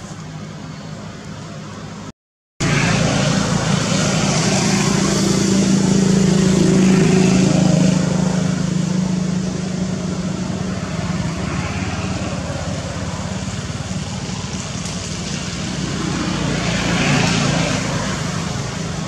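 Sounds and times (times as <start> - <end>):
motor engine running: 2.6 - 19.0.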